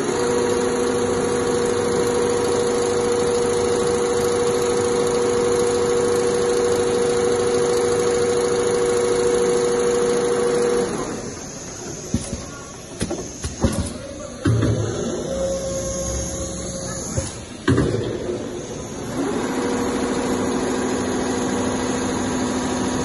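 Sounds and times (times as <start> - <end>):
sewing machine whining: 0.0 - 17.7, 18.3 - 23.0.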